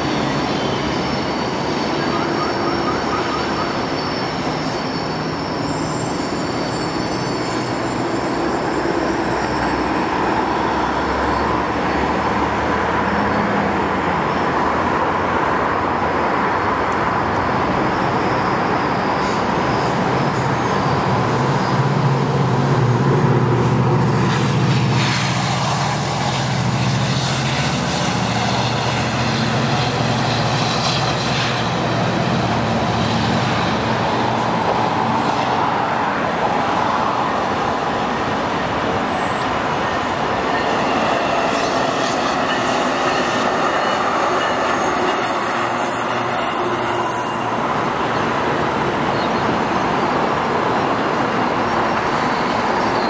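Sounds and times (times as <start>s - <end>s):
high wheel squeal: 0.0s - 12.4s, 15.8s - 37.6s, 38.8s - 50.0s, 50.8s - 53.0s.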